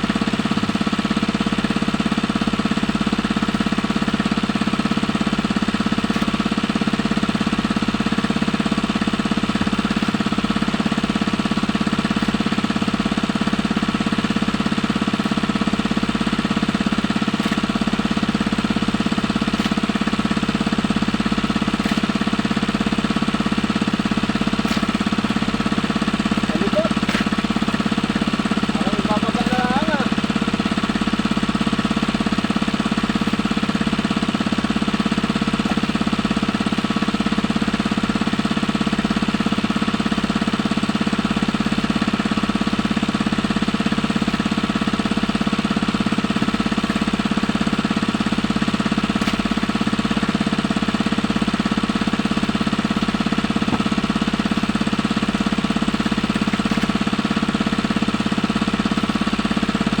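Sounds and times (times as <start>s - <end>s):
small engine running: 0.0s - 60.0s.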